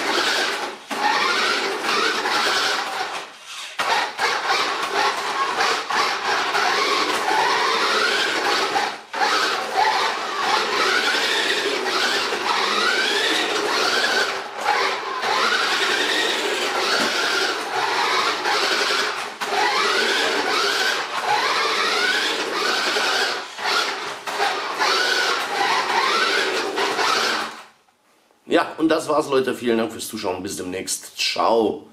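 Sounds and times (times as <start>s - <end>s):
steady rasping noise: 0.0s - 27.7s
toy car motor whining: 0.0s - 27.7s.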